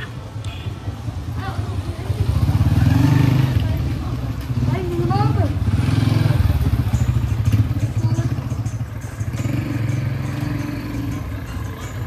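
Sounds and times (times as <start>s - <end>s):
motorcycle engine running: 0.9s - 12.0s.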